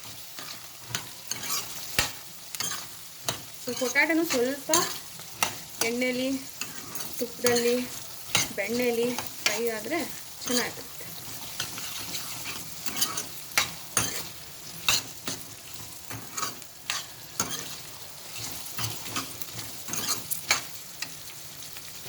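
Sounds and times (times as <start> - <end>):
utensil scraping a pan: 0.0 - 21.2
vegetables sizzling in oil: 0.0 - 22.0.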